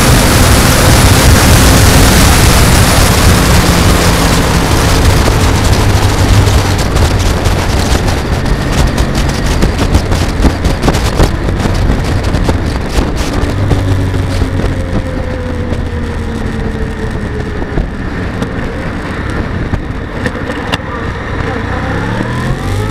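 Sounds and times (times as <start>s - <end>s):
motorcycle engine running: 0.0s - 22.9s
wind rushing over microphone: 0.0s - 22.9s.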